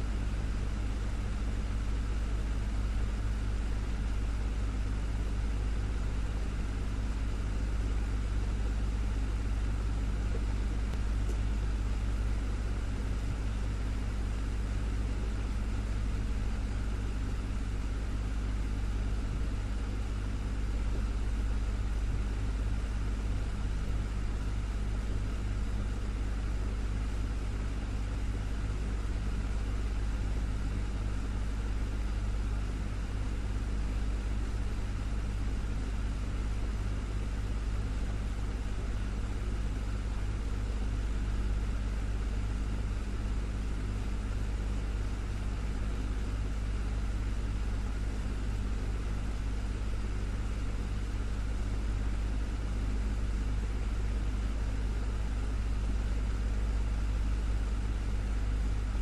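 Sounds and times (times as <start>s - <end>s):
desktop fan whirring: 0.0s - 59.0s.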